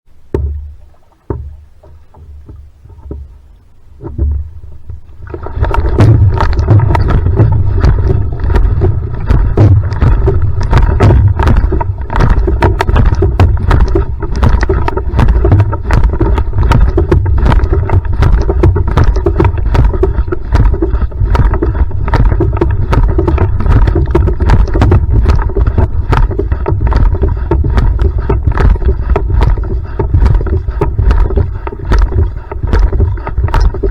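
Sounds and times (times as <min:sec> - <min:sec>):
heavy low rumble: 0:00.1 - 0:33.9
water rushing along hull: 0:00.1 - 0:33.9
paddle splashes and knocks: 0:00.2 - 0:33.9.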